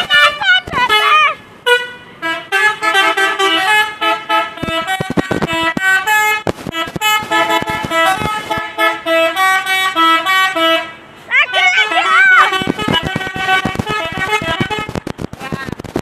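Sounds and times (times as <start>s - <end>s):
multi-tone bus horn tune: 0.0s - 15.2s.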